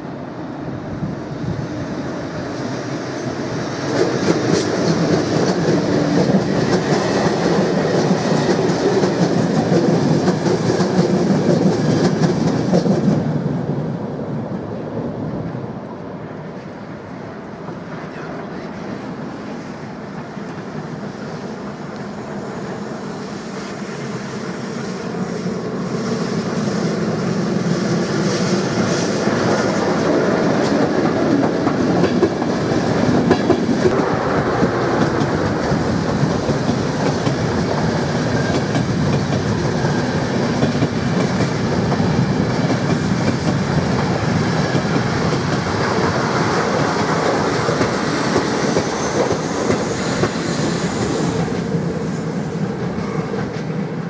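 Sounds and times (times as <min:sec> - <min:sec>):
passenger train passing: 0:00.0 - 0:54.0.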